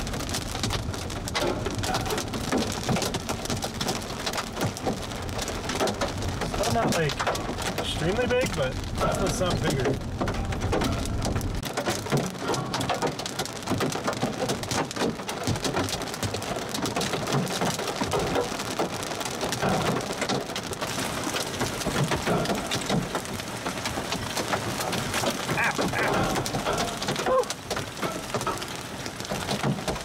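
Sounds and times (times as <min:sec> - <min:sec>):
heavy rain hiss: 0:00.0 - 0:14.2, 0:16.4 - 0:30.0
hail clattering on car roof: 0:00.0 - 0:30.0.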